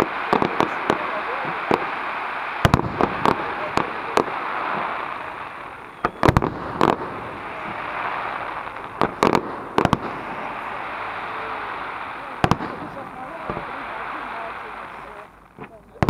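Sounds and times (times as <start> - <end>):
fireworks bangs: 0.0 - 16.0
steady hiss: 0.0 - 16.0.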